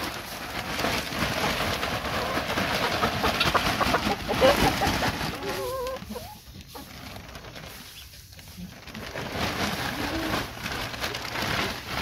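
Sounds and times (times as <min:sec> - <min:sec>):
wood shavings pouring from plastic sack: 0:00.0 - 0:12.0.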